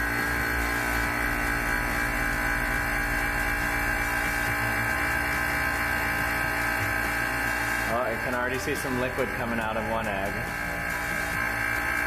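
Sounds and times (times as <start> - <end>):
vacuum pump running: 0.0 - 12.0.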